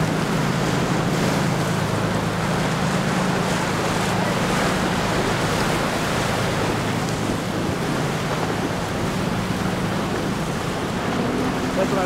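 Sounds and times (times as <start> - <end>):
boat engines droning: 0.0 - 12.0
surf: 0.0 - 12.0
wind on microphone: 0.0 - 12.0.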